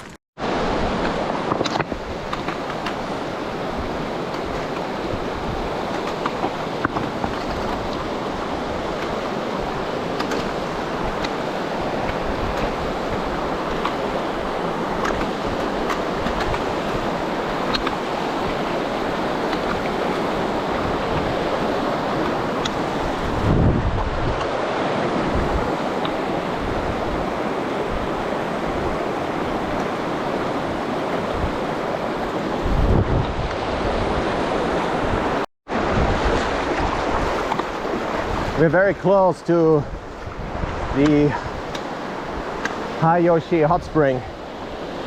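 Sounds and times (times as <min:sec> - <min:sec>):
river rushing over rocks: 0:00.4 - 0:45.0.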